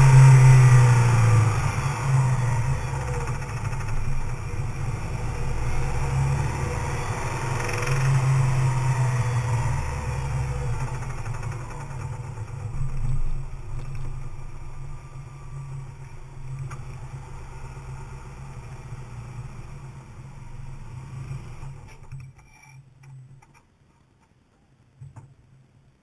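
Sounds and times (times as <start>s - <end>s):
car engine running at low revs: 0.0s - 22.3s.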